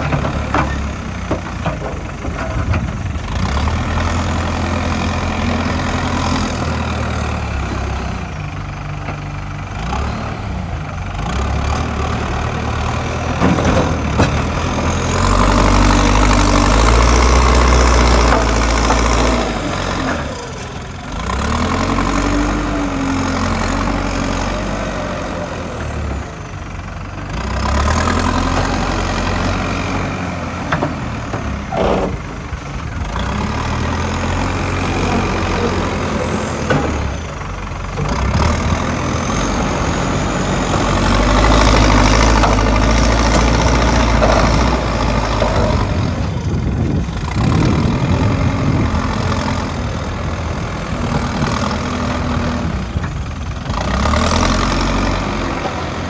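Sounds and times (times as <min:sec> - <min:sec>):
excavator diesel engine working: 0:00.0 - 0:56.0.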